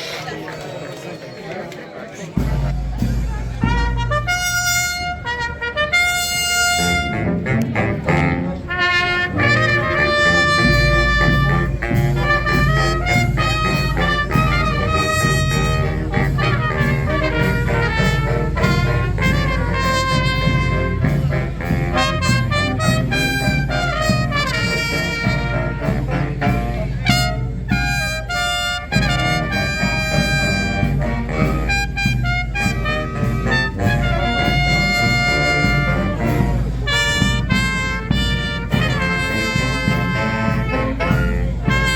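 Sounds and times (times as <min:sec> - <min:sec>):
brass band playing: 0:02.4 - 0:41.9.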